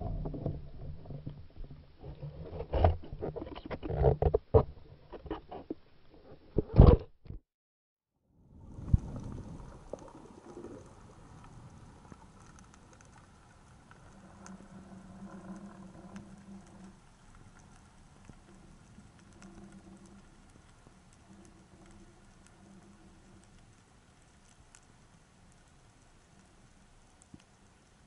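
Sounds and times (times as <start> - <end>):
underwater clicks and crackles: 0.0 - 7.4, 8.6 - 28.0.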